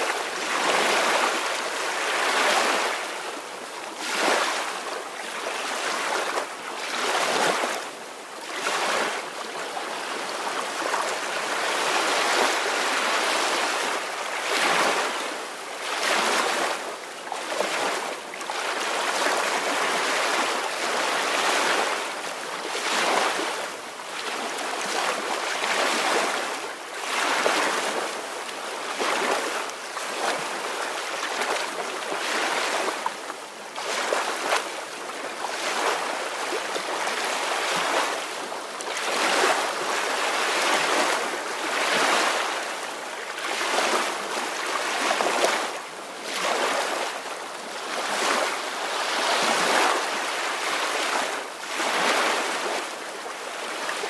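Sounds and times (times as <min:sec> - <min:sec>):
soft ocean waves washing in: 0:00.0 - 0:54.0.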